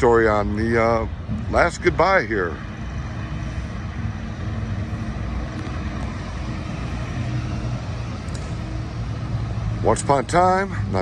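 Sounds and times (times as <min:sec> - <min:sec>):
faint constant hum: 0:00.0 - 0:11.0
vehicle engine rumbling: 0:00.0 - 0:11.0.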